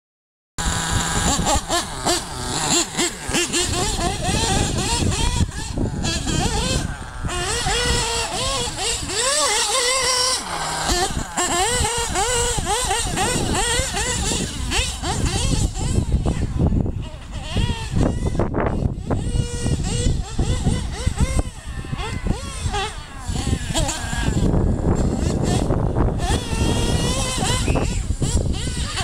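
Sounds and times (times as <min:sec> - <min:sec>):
nitro engine revving: 0:00.6 - 0:29.0.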